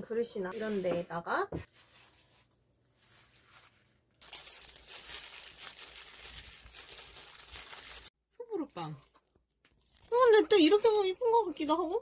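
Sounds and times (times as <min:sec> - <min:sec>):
plastic gloves crinkling: 0:00.3 - 0:12.0.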